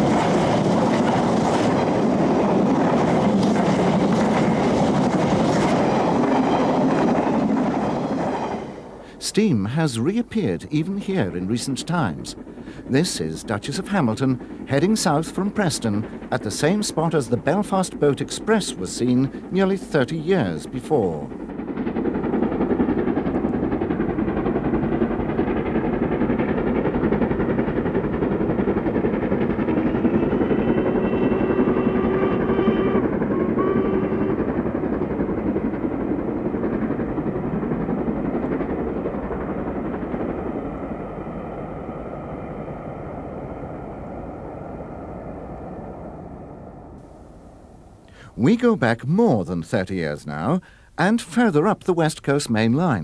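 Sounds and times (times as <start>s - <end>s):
steam locomotive passing: 0.0s - 53.0s.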